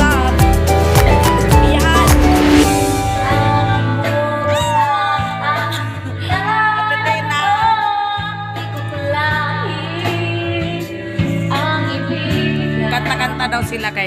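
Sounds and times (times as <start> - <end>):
bass: 0.0 - 14.0
guitar: 0.0 - 14.0
woman singing: 0.0 - 14.0.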